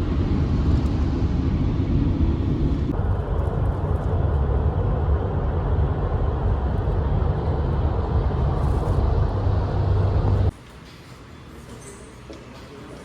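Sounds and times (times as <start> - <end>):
car road and engine rumble: 0.0 - 10.6.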